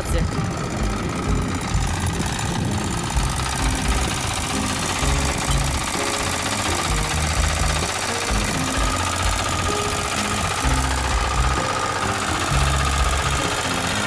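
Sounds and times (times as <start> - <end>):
diesel engine idling with knocking: 0.0 - 14.0.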